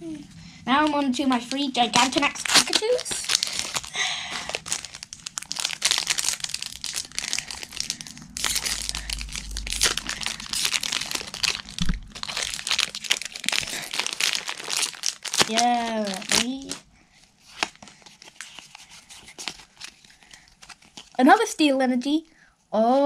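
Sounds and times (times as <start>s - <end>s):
plastic and foil packaging crinkling: 0.7s - 21.4s.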